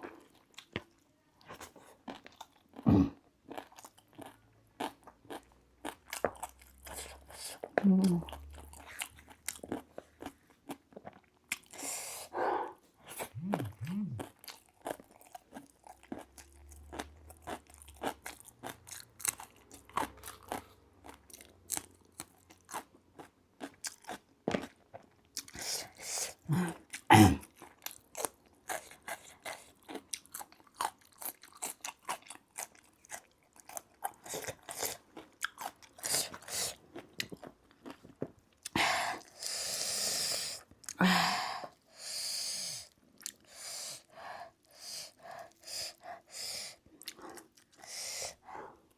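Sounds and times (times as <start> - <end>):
chewing and crunching food: 0.0 - 12.1, 13.0 - 41.0, 42.8 - 48.9.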